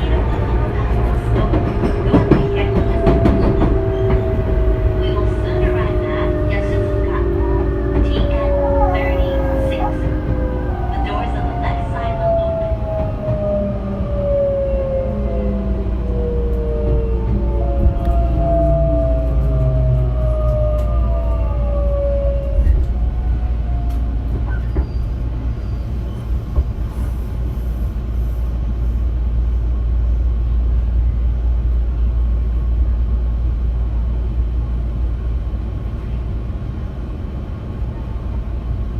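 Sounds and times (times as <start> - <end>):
wheels rumbling on rail: 0.0 - 38.9.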